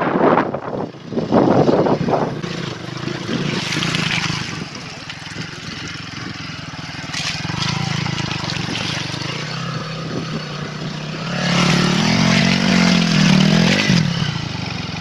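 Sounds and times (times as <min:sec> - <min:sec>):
motorcycle engine running: 0:00.0 - 0:15.0
wind buffeting microphone: 0:00.0 - 0:15.0
water splashing: 0:02.3 - 0:15.0.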